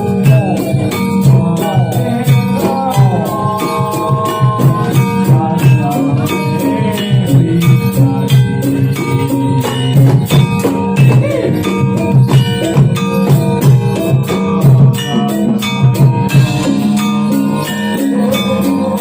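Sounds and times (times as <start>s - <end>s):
drums beating fast: 0.0s - 19.0s
held melodic notes: 0.0s - 19.0s
jingling percussion: 0.0s - 19.0s.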